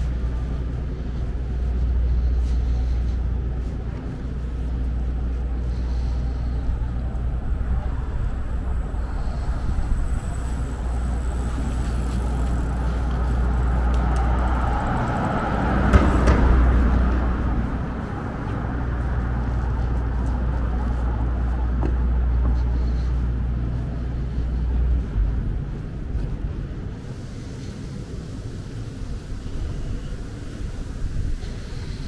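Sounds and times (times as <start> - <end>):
low traffic rumble: 0.0 - 32.0
vehicles passing: 0.0 - 32.0.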